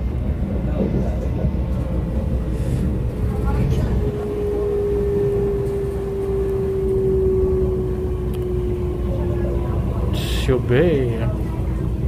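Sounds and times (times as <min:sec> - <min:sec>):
train rumble and motor whine: 0:00.0 - 0:12.0.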